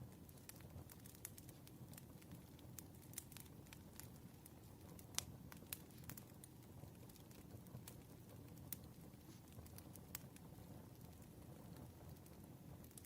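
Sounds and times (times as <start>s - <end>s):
campfire crackling: 0.0s - 13.0s
sharp fire pops: 0.2s - 13.0s.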